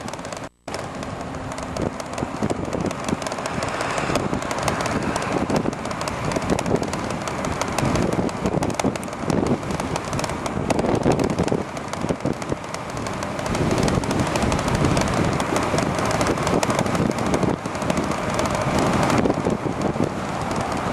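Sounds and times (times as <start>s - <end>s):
crackling clicks and rattles: 0.0s - 20.9s
wind buffeting microphone: 0.0s - 20.9s.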